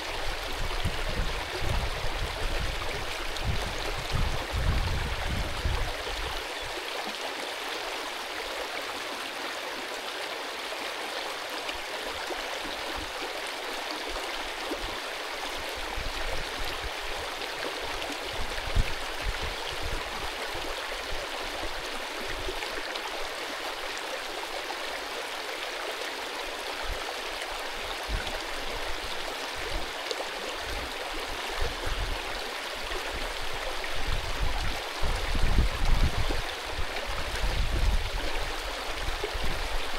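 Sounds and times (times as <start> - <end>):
brook rushing water: 0.0 - 39.9.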